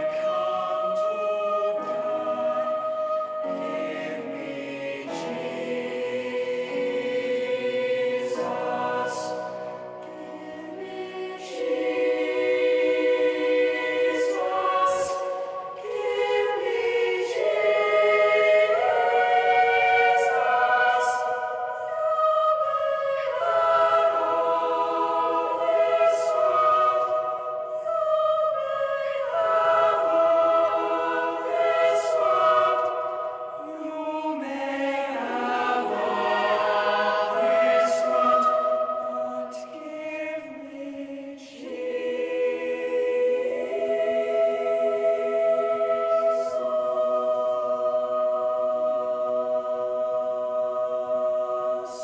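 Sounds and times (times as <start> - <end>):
choir singing held chords: 0.0 - 52.0.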